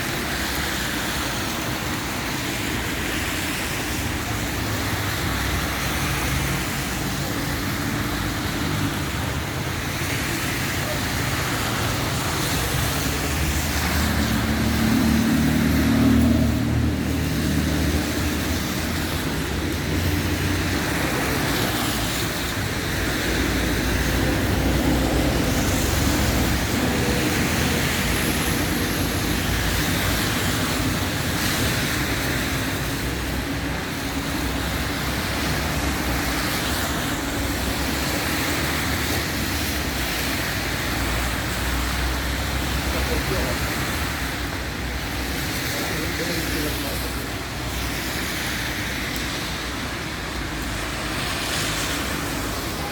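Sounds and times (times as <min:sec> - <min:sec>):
road traffic noise: 0:00.0 - 0:52.9
vehicle engine hum: 0:00.0 - 0:52.9.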